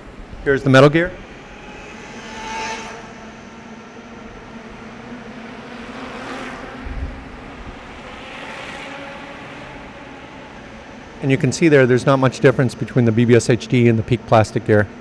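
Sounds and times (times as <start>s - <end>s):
electric bike motor whine: 0.0s - 15.0s.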